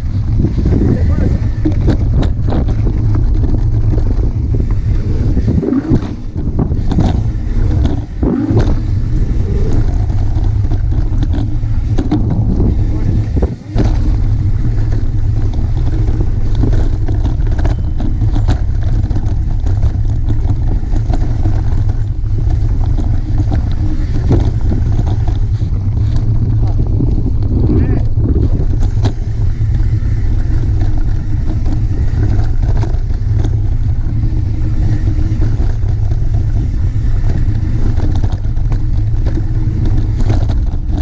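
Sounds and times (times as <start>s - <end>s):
bike clicks and rattles: 0.0s - 41.0s
bike tyres rolling over dirt: 0.0s - 41.0s
wind buffeting microphone: 0.0s - 41.0s.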